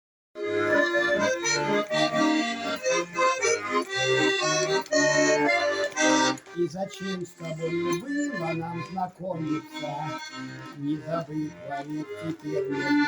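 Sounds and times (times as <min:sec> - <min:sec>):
accordion playing: 0:00.4 - 0:13.0.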